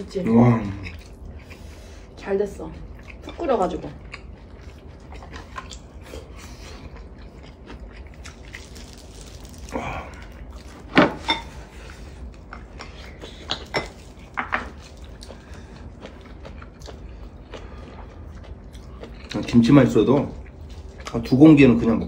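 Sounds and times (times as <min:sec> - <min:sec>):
wet chewing and slurping: 0:00.7 - 0:02.2, 0:02.8 - 0:22.0.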